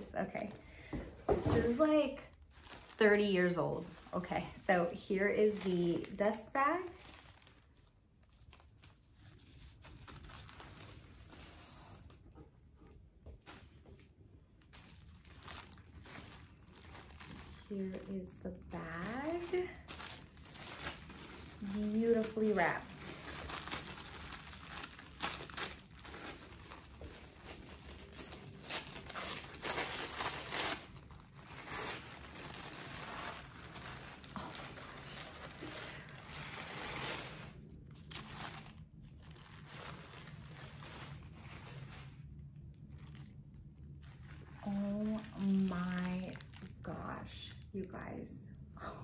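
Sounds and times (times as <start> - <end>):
fabric and paper rustling: 0.0 - 47.7.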